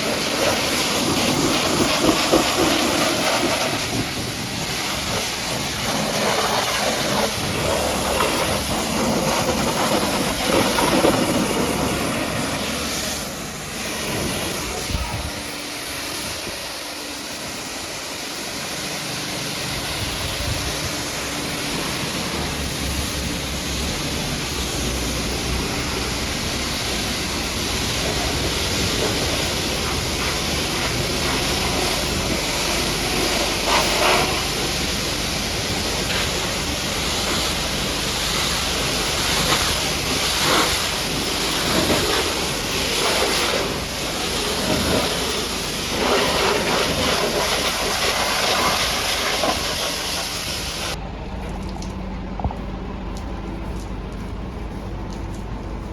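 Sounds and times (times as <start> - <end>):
pressure washer spraying water: 0.0 - 51.0
water splashes: 0.0 - 55.8.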